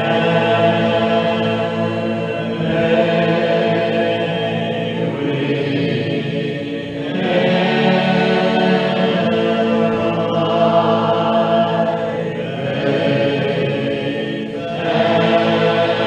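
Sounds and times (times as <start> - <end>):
congregation singing a hymn: 0.0 - 16.0.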